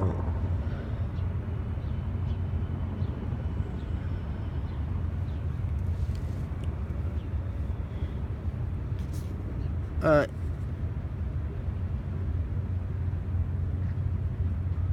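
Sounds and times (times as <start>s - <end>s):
helicopter flying overhead: 0.0s - 14.9s.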